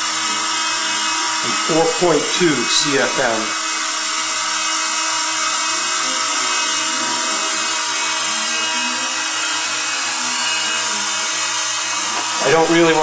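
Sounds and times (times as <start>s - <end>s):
turbine whine: 0.0s - 13.0s.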